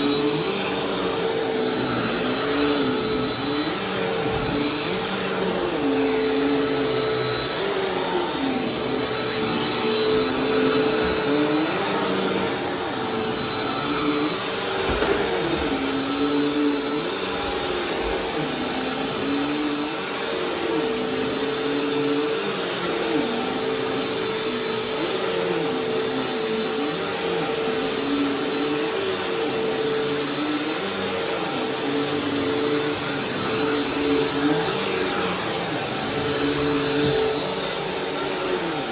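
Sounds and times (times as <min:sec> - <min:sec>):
vacuum cleaner on carpet: 0:00.0 - 0:38.9.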